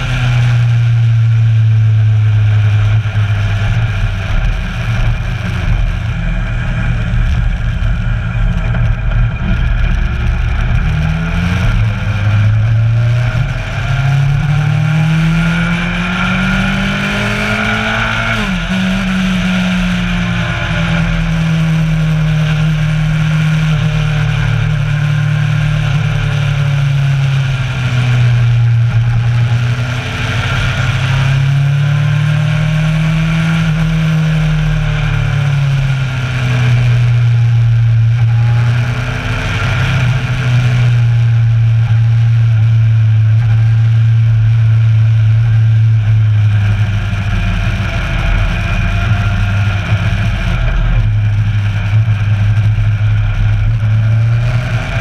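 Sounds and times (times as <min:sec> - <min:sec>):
motorcycle engine running: 0:00.0 - 0:55.0
steady rush of noise: 0:00.0 - 0:55.0.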